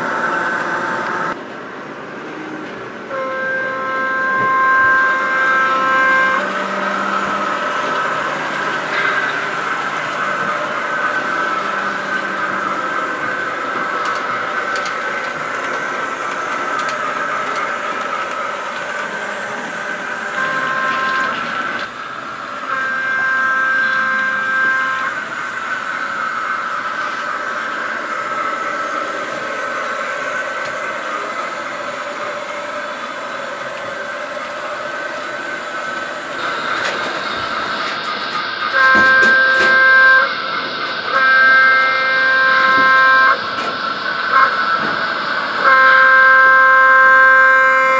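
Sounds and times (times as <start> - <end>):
model trains humming: 0.0 - 47.9
model train horn: 3.1 - 37.3, 38.7 - 47.9.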